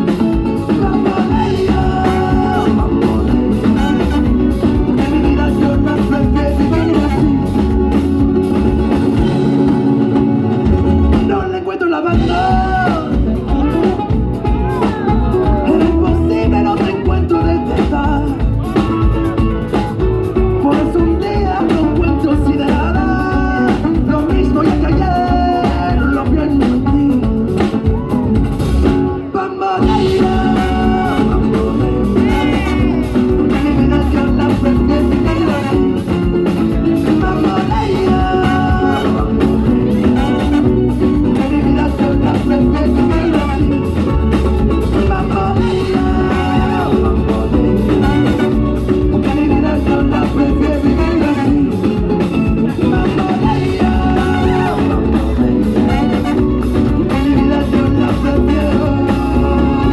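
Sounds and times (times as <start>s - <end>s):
person singing: 0.0s - 10.3s, 11.0s - 59.9s
latin band playing rumba: 0.0s - 59.9s
spanish guitar: 0.0s - 59.9s.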